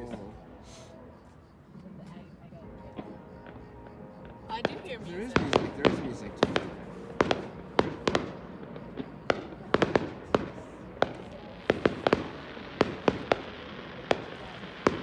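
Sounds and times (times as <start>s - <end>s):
distant fireworks bangs: 2.8s - 15.0s.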